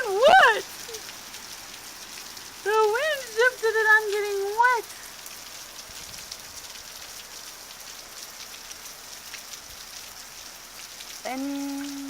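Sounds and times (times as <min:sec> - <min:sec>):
drops ticking nearby: 0:00.0 - 0:12.0
heavy rain hissing: 0:00.0 - 0:12.0.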